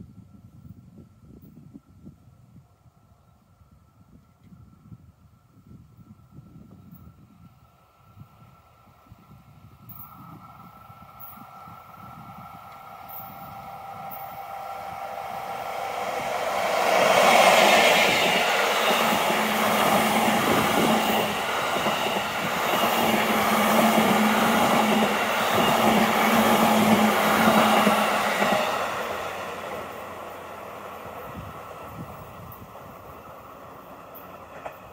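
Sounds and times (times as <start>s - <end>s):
train rolling past on rails: 0.7s - 34.9s.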